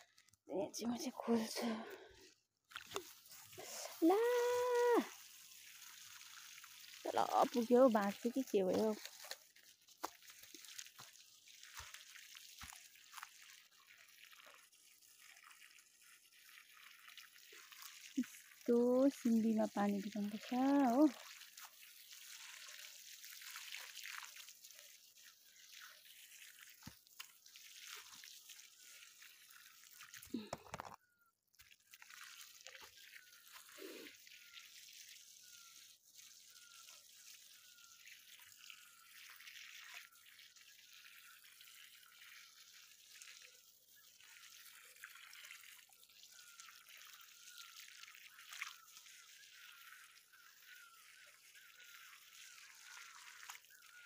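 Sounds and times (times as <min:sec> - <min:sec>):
hose water splashing on soil: 0:00.0 - 0:54.0.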